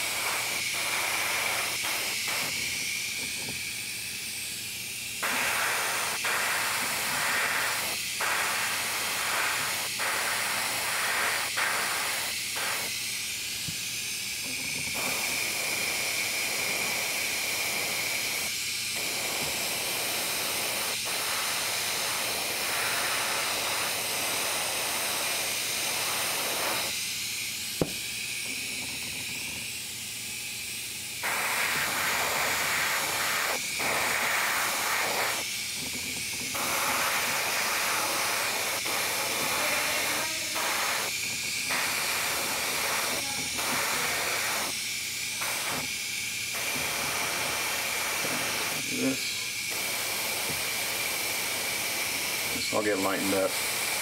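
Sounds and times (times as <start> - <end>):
airbrush spraying paint: 0.0 - 54.0
thin air hiss: 0.0 - 54.0.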